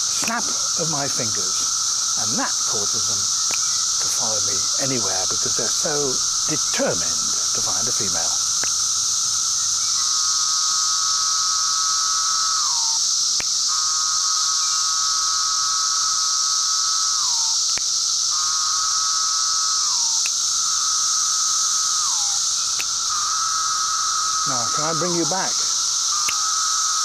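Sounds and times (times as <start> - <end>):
cicada buzzing calls: 0.0 - 27.0
high-pitched cicada chorus: 0.0 - 27.0.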